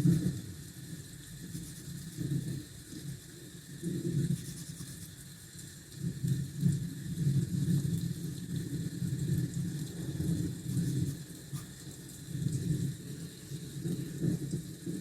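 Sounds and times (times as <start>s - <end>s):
high hiss of rain: 0.0s - 15.0s.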